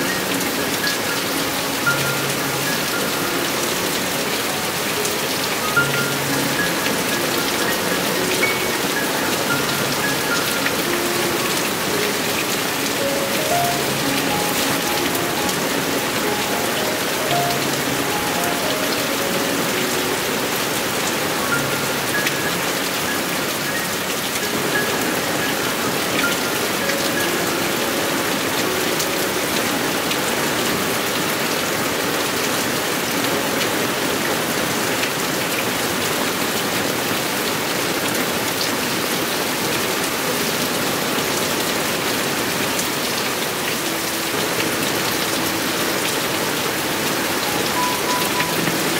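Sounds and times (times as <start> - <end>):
heavy rain on surfaces: 0.0 - 48.9.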